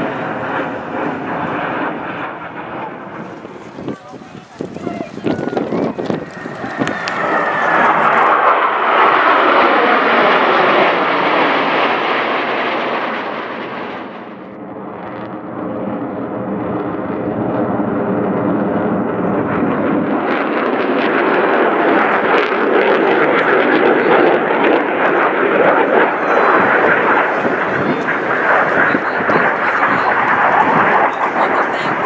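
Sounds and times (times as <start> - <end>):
jets flying overhead: 0.0 - 32.0.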